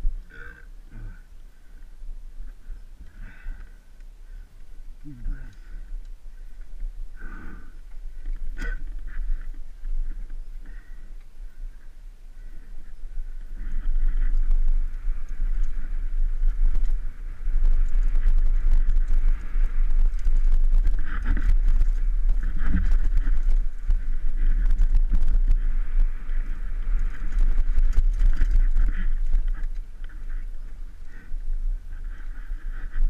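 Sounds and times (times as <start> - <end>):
wind rumble on microphone: 0.0 - 33.0
bike rattling: 1.7 - 33.0.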